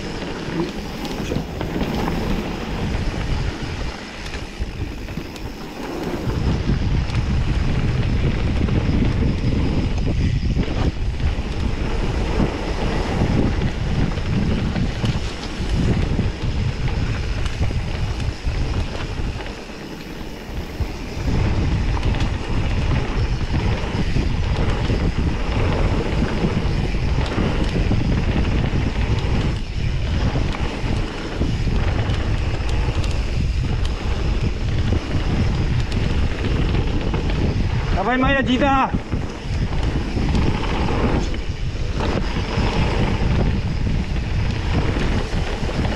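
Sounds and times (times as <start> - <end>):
bike tyres rattling over dirt: 0.0 - 45.9
wind buffeting microphone: 0.0 - 45.9.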